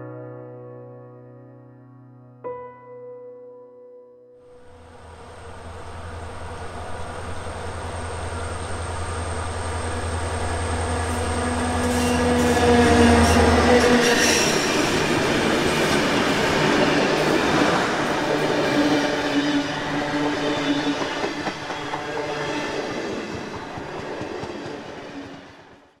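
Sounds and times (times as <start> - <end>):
train running: 4.6 - 26.0.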